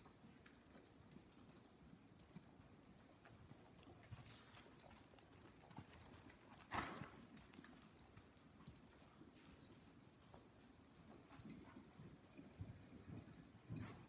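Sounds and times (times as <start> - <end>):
faint hoofbeats on soft dirt: 0.0 - 14.0.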